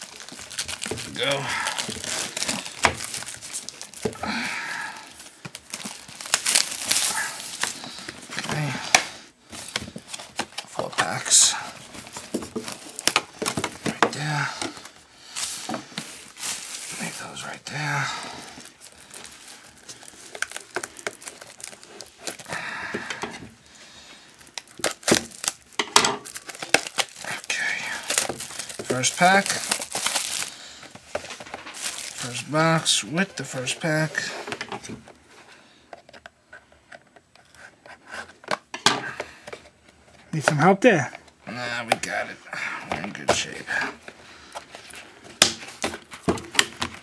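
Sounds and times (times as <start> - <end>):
packaging crinkling and tearing: 0.0 - 34.6, 43.2 - 47.0.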